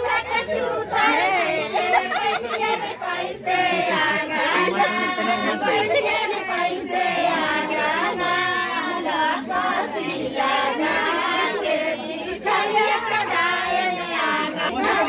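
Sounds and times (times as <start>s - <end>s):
group of women singing: 0.0s - 15.0s.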